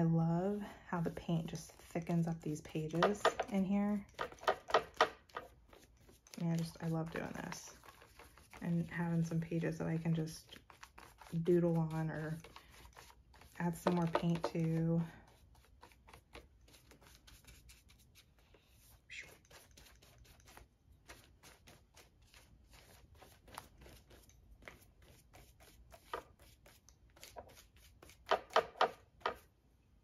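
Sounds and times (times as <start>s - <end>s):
paintbrush strokes on paper: 0.0s - 29.6s.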